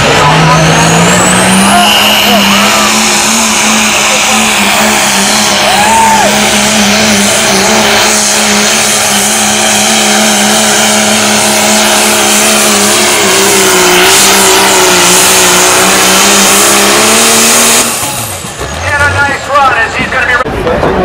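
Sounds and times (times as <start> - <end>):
diesel truck engine at high revs: 0.0 - 21.0.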